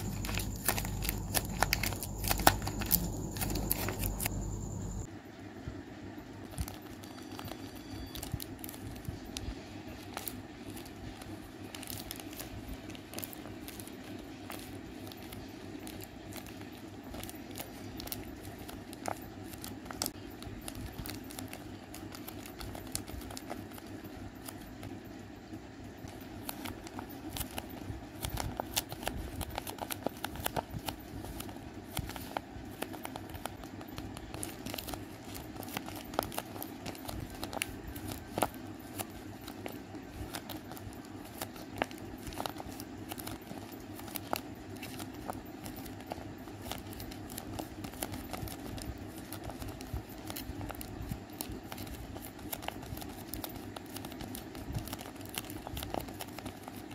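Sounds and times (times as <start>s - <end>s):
taped paper crinkling: 0.0s - 5.1s, 6.5s - 25.0s, 26.0s - 56.9s
low background hum: 0.0s - 56.9s.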